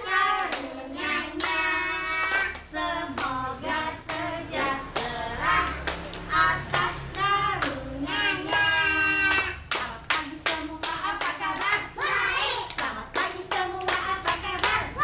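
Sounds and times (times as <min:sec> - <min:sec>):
children's song being sung: 0:00.0 - 0:15.0
hands clapping in a steady beat: 0:00.0 - 0:15.0.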